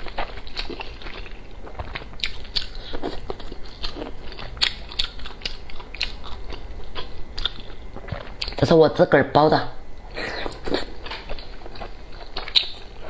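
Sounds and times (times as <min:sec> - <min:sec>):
person biting and chewing: 0:00.0 - 0:08.7, 0:10.0 - 0:13.0.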